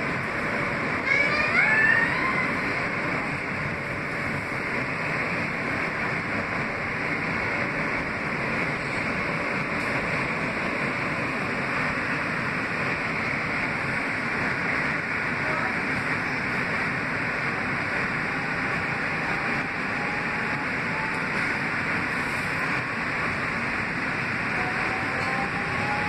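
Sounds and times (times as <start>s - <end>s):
rushing air: 0.0s - 26.0s
wheels on rails: 0.0s - 26.0s.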